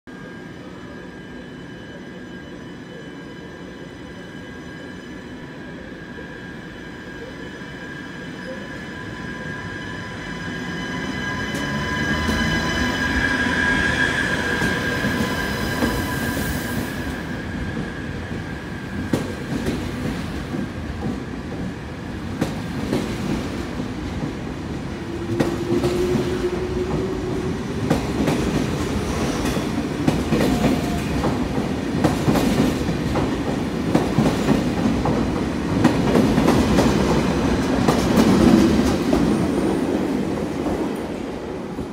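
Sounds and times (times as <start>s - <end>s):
train whine of high tones: 0.1s - 41.9s.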